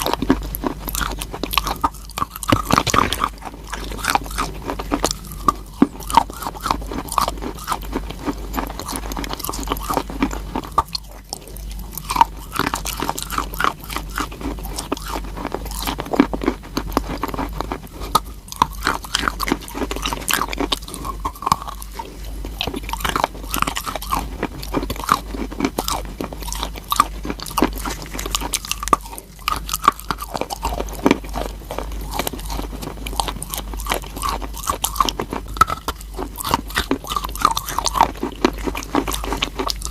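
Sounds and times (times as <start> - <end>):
chalk crunching when chewed: 0.0 - 39.9.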